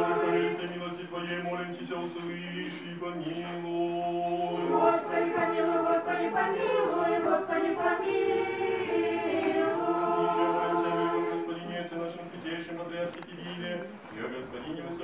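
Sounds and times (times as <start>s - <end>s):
choir singing a cappella chant: 0.0s - 12.3s.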